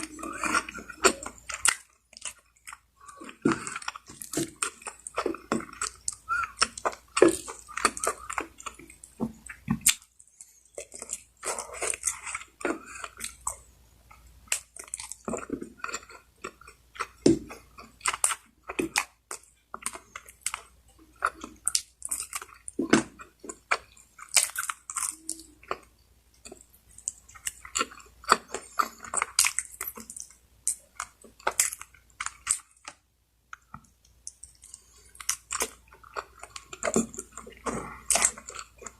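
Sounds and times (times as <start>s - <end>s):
person chewing and smacking: 0.0s - 38.9s.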